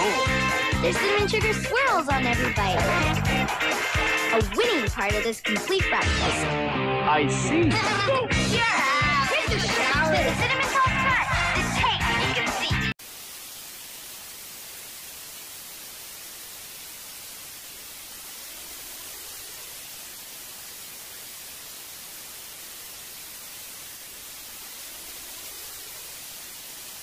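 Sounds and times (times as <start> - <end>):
television static hiss: 0.0 - 5.9, 7.8 - 27.0.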